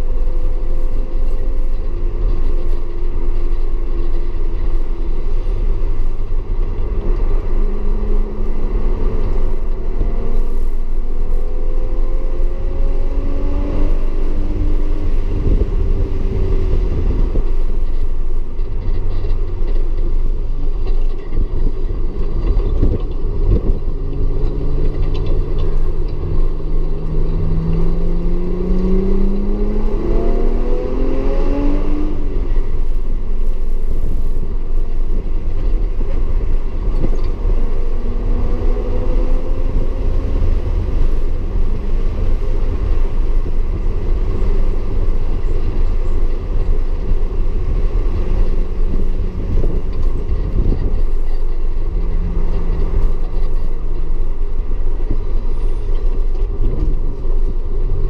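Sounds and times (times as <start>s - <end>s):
car engine accelerating: 0.0s - 58.0s
heavy constant low rumble: 0.0s - 58.0s.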